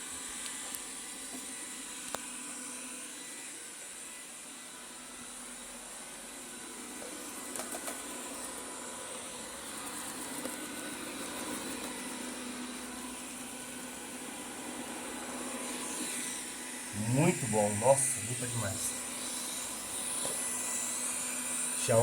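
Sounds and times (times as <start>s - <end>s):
robot vacuum hiss and whine: 0.0s - 22.0s.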